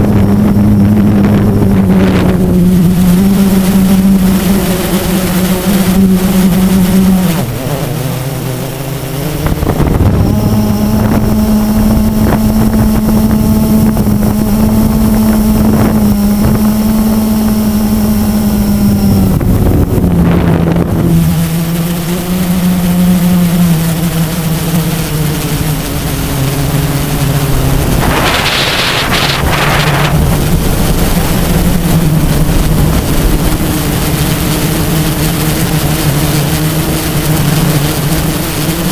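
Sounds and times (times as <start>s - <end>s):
quadcopter motors buzzing: 0.0s - 38.9s
wind noise rush: 0.0s - 38.9s.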